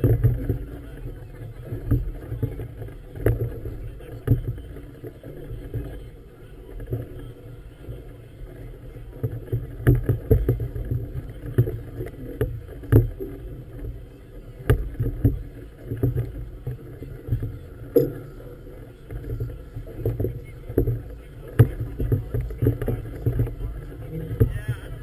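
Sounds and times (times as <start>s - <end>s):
water slapping against hull: 0.0s - 25.0s.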